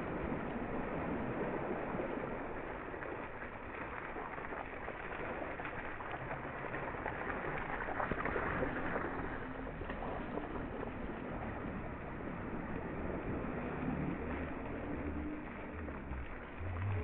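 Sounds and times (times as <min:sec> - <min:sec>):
bike tyres splashing through puddle: 0:00.0 - 0:17.0.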